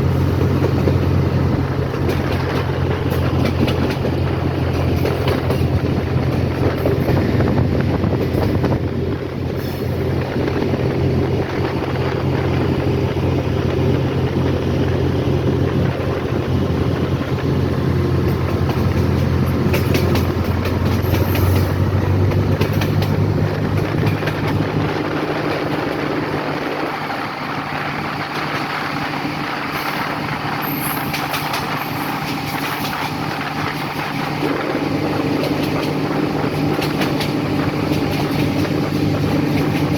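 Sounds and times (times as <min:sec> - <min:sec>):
vehicle engine hum: 0:00.0 - 0:39.9.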